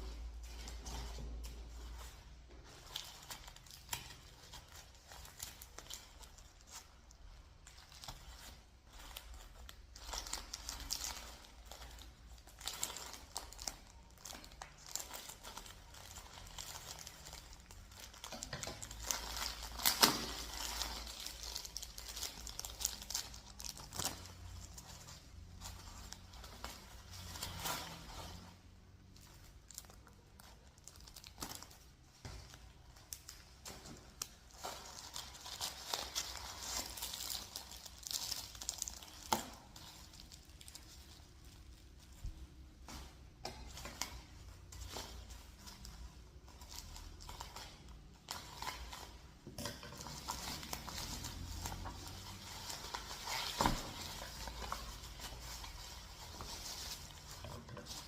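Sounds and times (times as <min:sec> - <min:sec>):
packaging crinkling and tearing: 0:00.0 - 0:28.4, 0:29.0 - 0:58.0.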